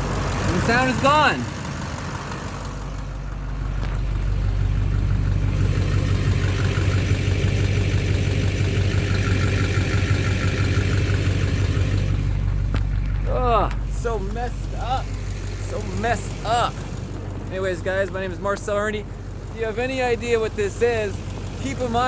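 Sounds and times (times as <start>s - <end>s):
diesel engine idling: 0.0s - 22.0s
engine knocking clatter: 0.0s - 22.0s.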